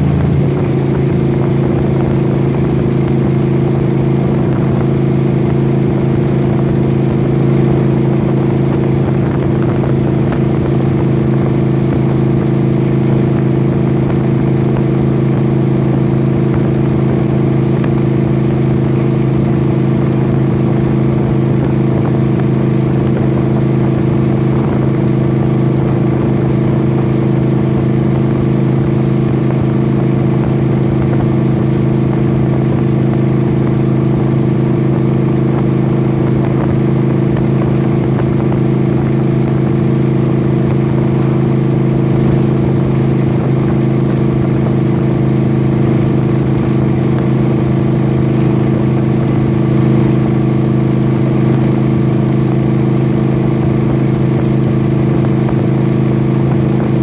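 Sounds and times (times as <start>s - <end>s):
vehicle engine and road drone: 0.0s - 57.0s.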